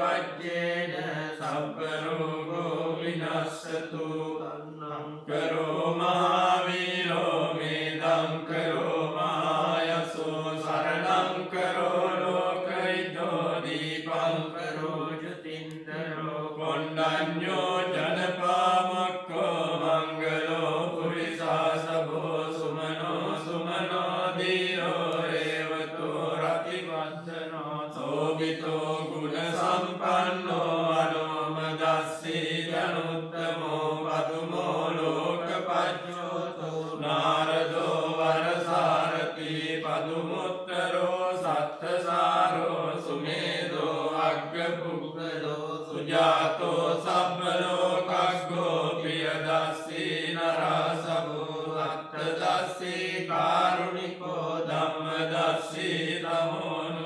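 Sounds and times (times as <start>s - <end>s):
male voices chanting: 0.0s - 57.0s.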